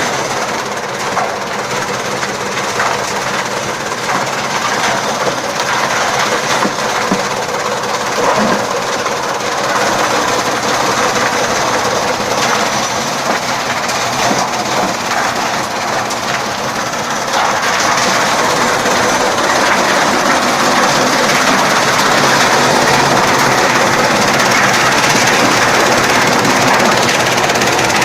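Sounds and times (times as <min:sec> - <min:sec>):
chaff cutter running: 0:00.0 - 0:28.0.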